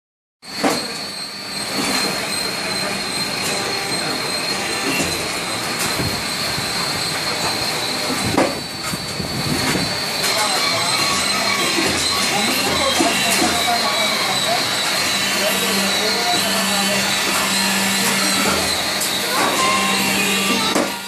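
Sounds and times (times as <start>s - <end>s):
high steady whine: 0.5s - 21.0s
roll forming machine running: 0.5s - 21.0s.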